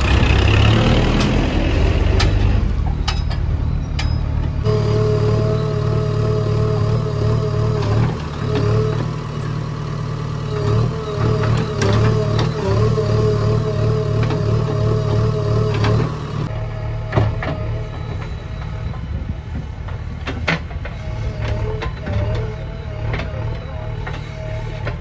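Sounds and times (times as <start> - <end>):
diesel engine under load: 0.0 - 25.0
hydraulic whine: 0.0 - 25.0.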